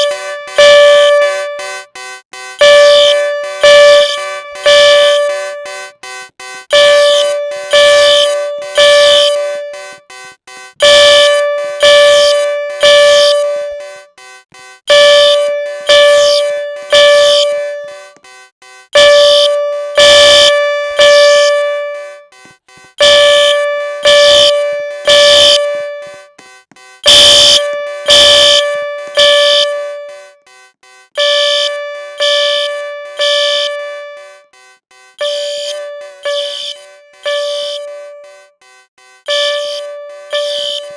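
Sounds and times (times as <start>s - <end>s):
fire alarm horn blasts: 0.0s - 40.9s.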